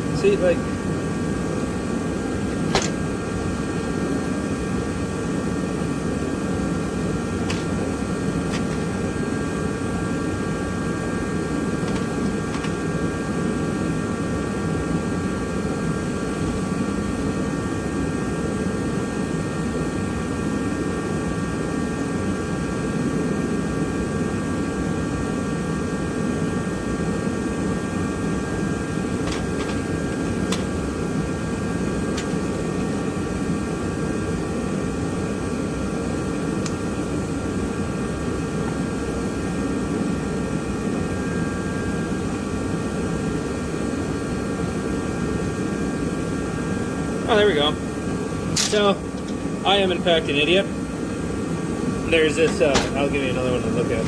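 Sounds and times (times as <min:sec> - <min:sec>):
fan whirring: 0:00.0 - 0:22.0, 0:25.8 - 0:54.0.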